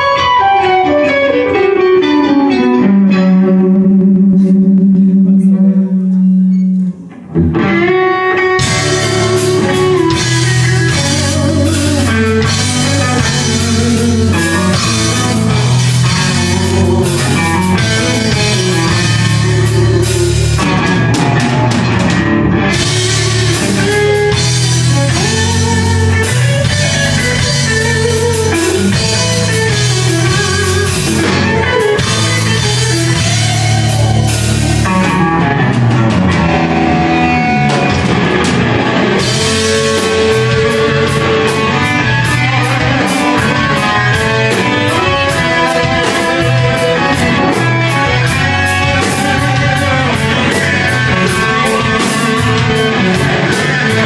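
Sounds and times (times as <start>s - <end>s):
rock band playing metal: 0.0s - 54.0s.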